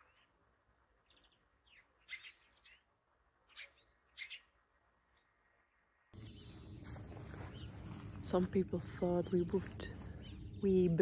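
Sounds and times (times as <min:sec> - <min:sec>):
bird chirp: 0:00.0 - 0:11.0.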